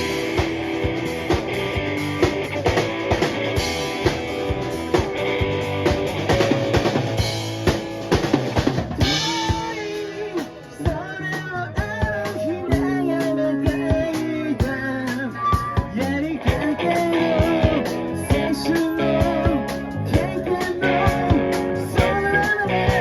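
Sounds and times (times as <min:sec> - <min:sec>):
bass guitar: 0:00.0 - 0:23.0
drum kit beat: 0:00.0 - 0:23.0.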